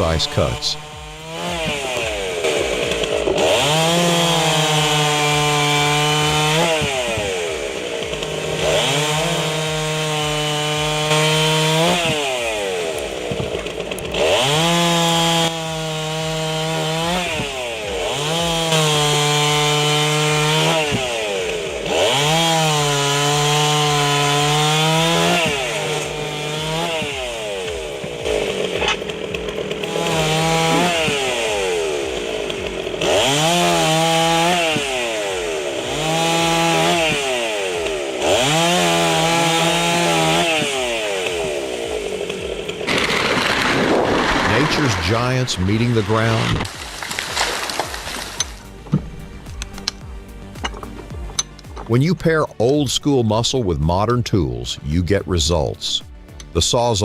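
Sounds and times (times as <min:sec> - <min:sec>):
chainsaw cutting logs: 0:00.0 - 0:57.0.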